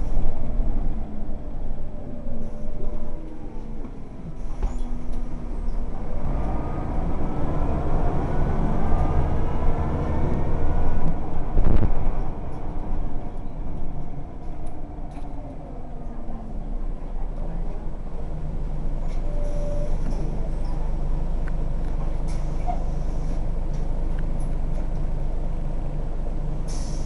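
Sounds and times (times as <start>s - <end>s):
bus engine and gearbox whine: 0.0s - 27.0s.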